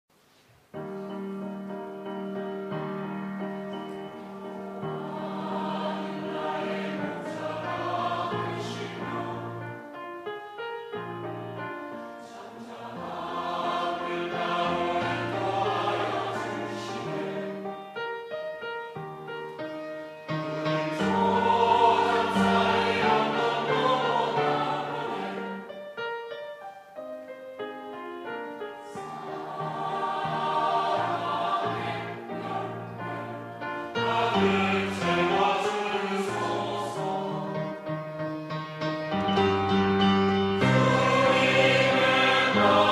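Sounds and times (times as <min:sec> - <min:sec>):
mixed choir singing sustained chords: 0:02.4 - 0:10.1, 0:11.3 - 0:18.5, 0:19.8 - 0:26.0, 0:28.2 - 0:38.4, 0:39.2 - 0:42.9.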